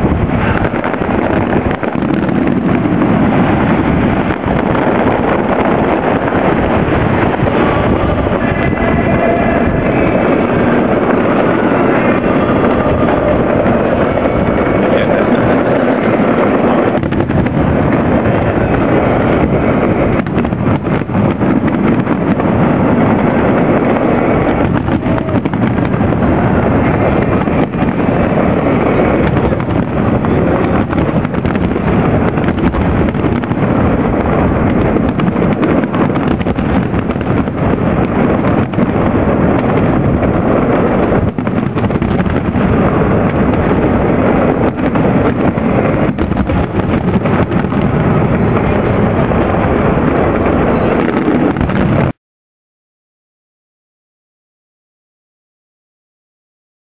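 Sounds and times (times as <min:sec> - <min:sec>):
fireworks bangs and crackle: 0:00.0 - 0:52.2.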